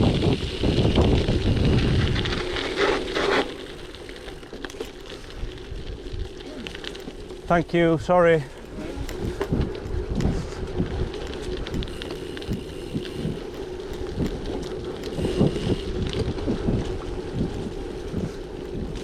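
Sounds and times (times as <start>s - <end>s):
wind buffeting microphone: 0.0s - 4.0s, 5.0s - 19.0s
bicycle tyres on gravel: 0.0s - 19.0s.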